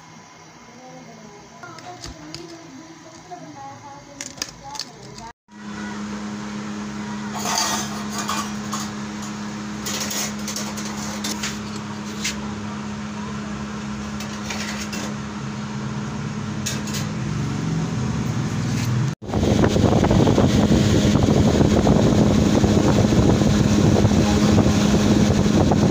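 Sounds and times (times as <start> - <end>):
machine hum: 0.0 - 25.9.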